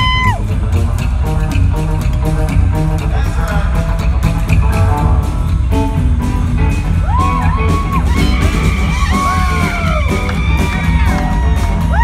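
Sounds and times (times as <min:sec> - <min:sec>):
drums: 0:00.0 - 0:12.0
electric guitar: 0:00.0 - 0:12.0
slapped upright bass: 0:00.0 - 0:12.0.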